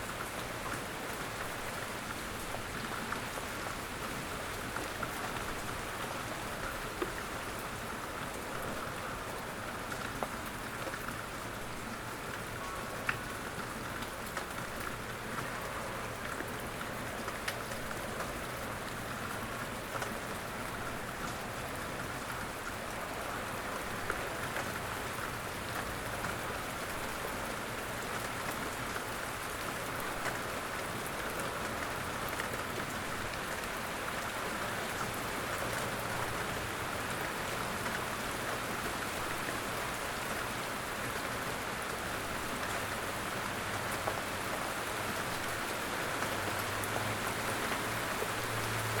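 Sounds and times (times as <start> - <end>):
steady rain hiss: 0.0 - 49.0.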